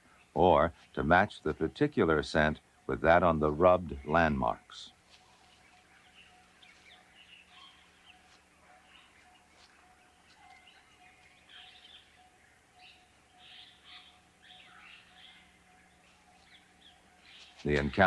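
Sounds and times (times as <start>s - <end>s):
steady low hum: 0.0s - 18.0s
bird chirps and calls: 3.1s - 18.0s.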